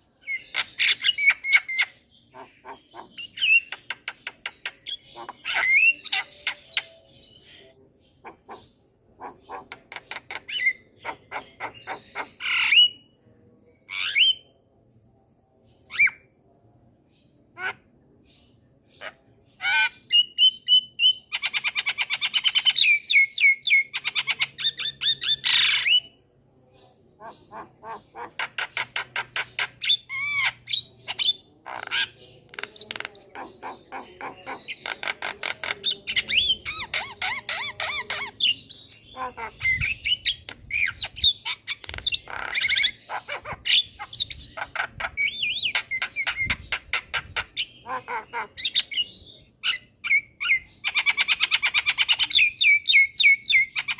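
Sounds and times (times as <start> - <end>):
bird singing rattling chatter: 0.0 - 14.4, 16.9 - 53.9.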